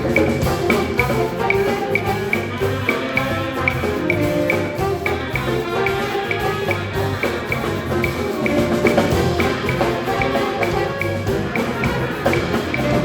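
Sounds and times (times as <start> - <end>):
high percussion tick: 0.0 - 13.0
instrumental ensemble music: 0.0 - 13.0.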